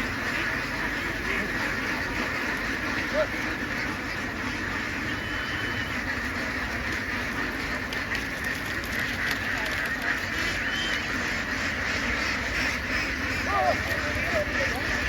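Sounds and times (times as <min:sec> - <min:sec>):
flock of ducks quacking: 0:00.0 - 0:15.0.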